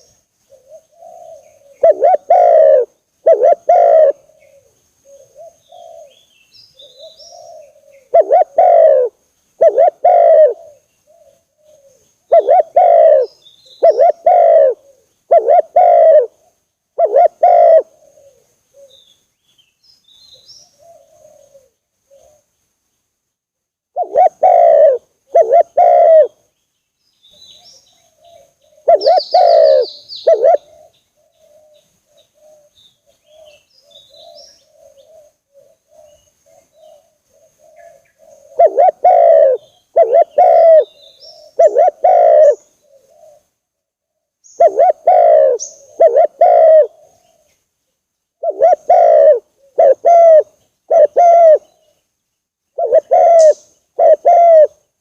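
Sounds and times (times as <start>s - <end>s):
doves cooing: 0.0s - 19.0s, 20.6s - 22.5s, 24.0s - 26.4s, 27.5s - 43.6s, 44.5s - 47.6s, 48.4s - 52.0s, 52.8s - 54.8s
small birds chirping: 0.0s - 23.2s, 24.0s - 55.0s.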